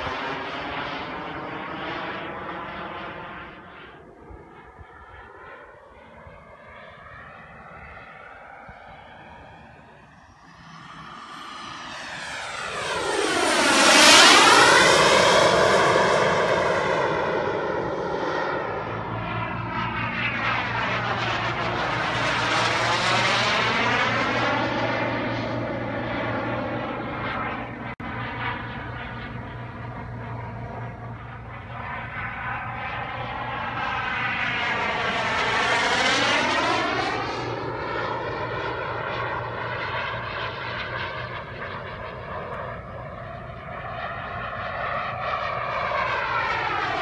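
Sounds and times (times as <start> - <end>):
jet aircraft roaring past: 0.0 - 47.0.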